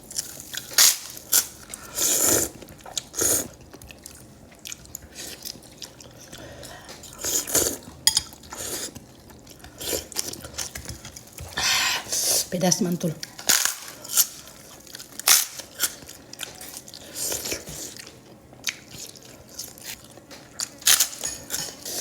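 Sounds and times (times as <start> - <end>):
slurping and chewing noodles: 0.1 - 12.5, 13.2 - 22.0.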